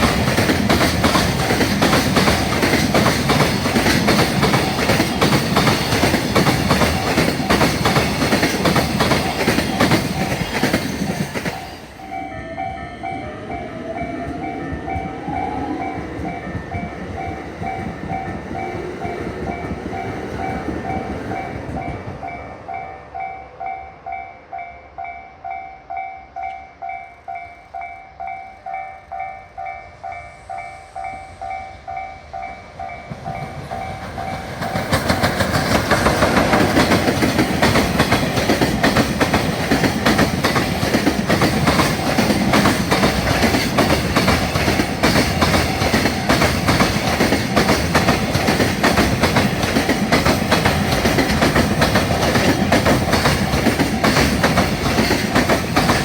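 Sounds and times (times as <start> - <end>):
train wheels clacking on rails: 0.0 - 22.8, 28.7 - 56.0
freight train rumbling past: 0.0 - 56.0.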